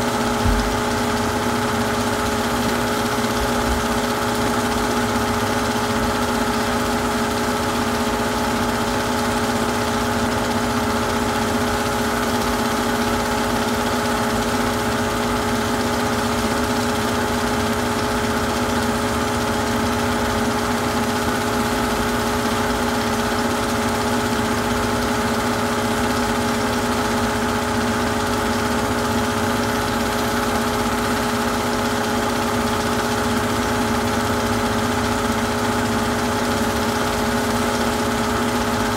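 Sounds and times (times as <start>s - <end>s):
film projector motor hum: 0.0s - 38.9s.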